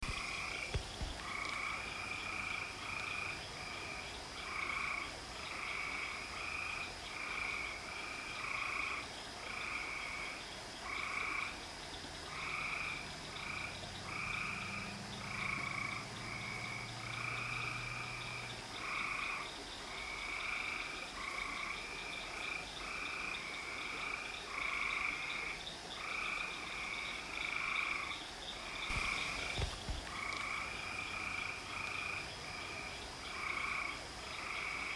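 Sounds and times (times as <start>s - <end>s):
frogs calling in chorus: 0.0s - 34.9s.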